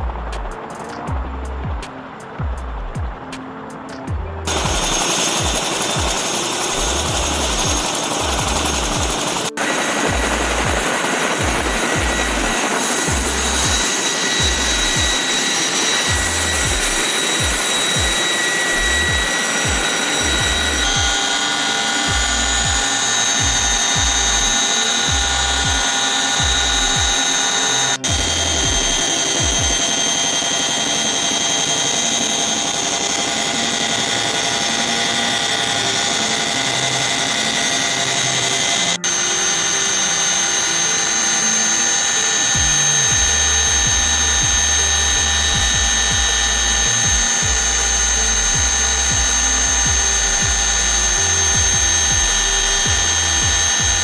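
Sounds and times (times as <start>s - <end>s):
helicopter rotor beat: 0.0s - 54.0s
helicopter turbine whine: 0.0s - 54.0s.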